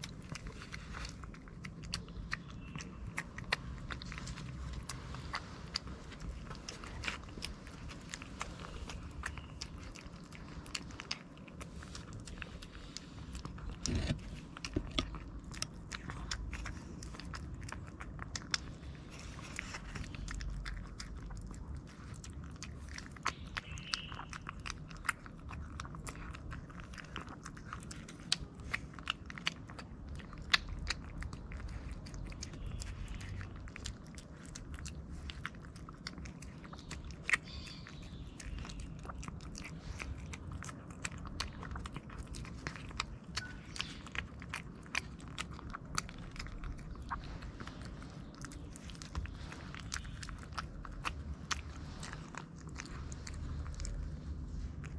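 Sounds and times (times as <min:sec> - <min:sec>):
cat chewing wet food: 0:00.0 - 0:54.9.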